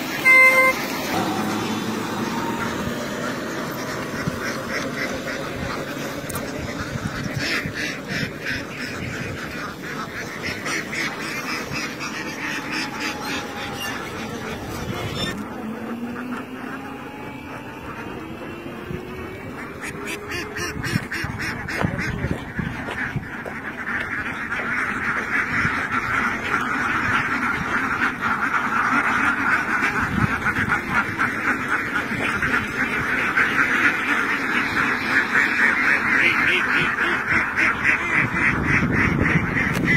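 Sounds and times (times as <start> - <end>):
flock of ducks quacking: 0.0 - 39.9.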